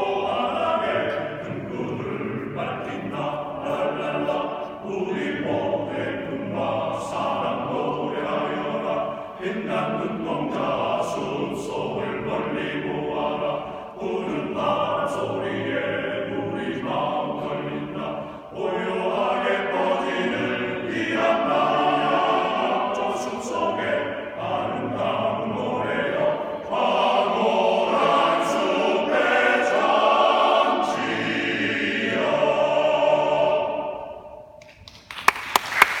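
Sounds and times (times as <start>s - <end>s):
choir singing in harmony: 0.0s - 34.6s.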